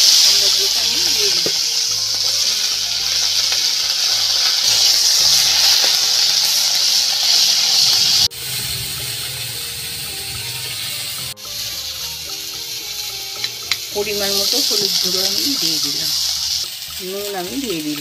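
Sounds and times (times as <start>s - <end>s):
plums sizzling in frying oil: 0.0s - 18.0s.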